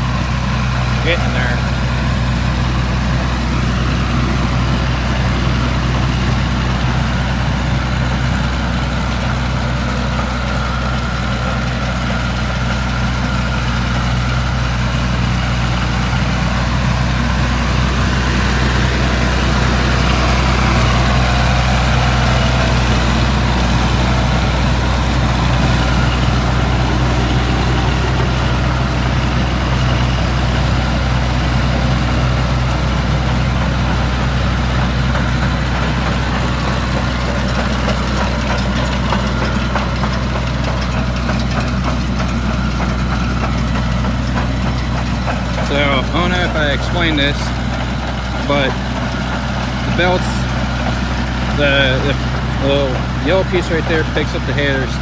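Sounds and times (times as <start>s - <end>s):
baler machinery running: 0.0s - 55.0s
tractor engine running under load: 0.0s - 55.0s.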